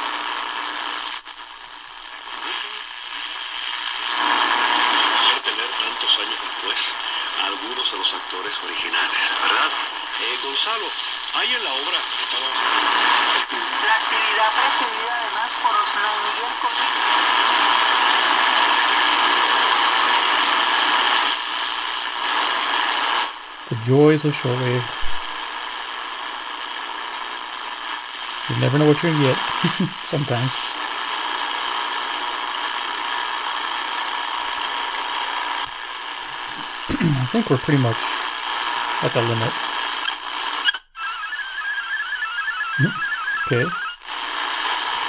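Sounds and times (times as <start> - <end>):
radio static hissing: 0.0 - 45.0.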